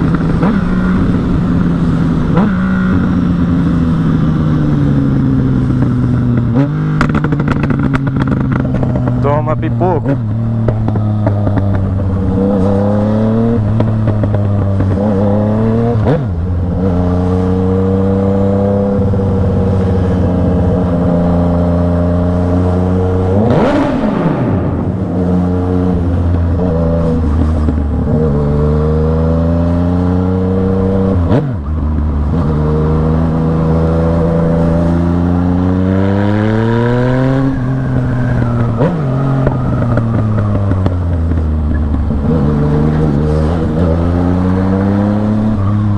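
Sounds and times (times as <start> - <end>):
motorcycle engine revving: 0.0 - 45.9
vehicle passing: 8.5 - 45.9.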